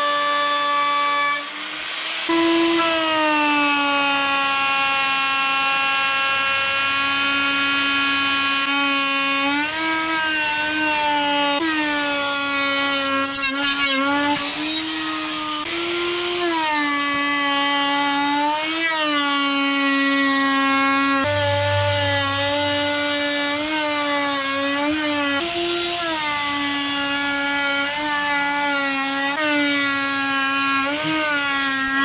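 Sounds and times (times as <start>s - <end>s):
router cutting wood whine: 0.0s - 32.0s.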